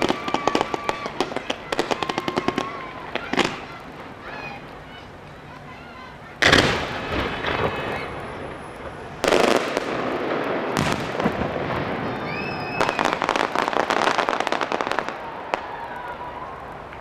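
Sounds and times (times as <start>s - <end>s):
rapid firework crackling: 0.0s - 17.0s.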